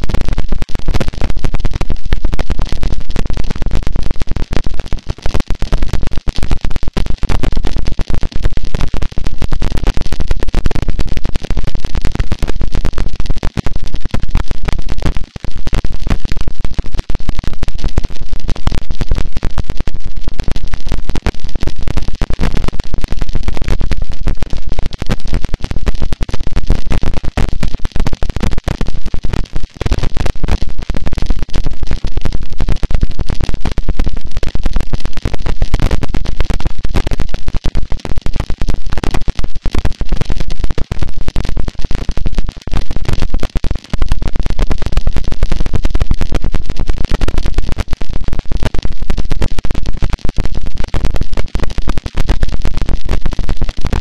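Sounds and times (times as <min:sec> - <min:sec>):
loud distorted static: 0:00.0 - 0:54.0.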